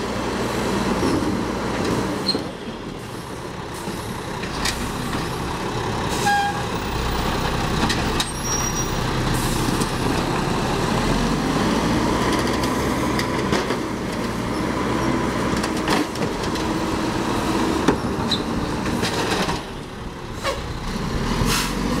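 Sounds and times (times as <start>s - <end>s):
truck engine running: 2.6s - 22.0s.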